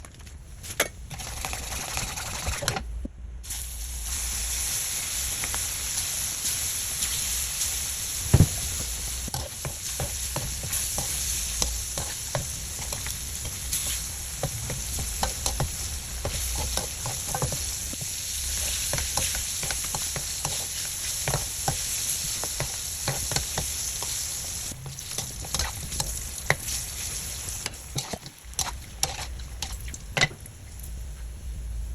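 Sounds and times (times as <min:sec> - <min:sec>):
fish sizzling in hot oil: 0:03.5 - 0:31.0.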